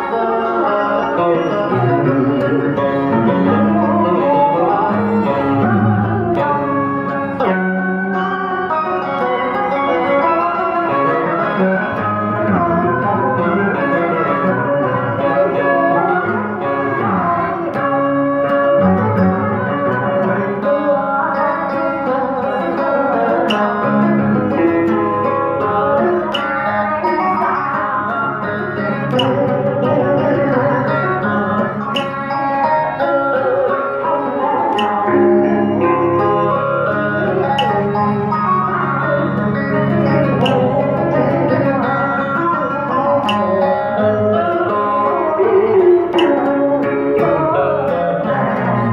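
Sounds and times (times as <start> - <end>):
backing track with plucked guitar: 0.0 - 48.9
woman singing into a microphone: 0.0 - 48.9.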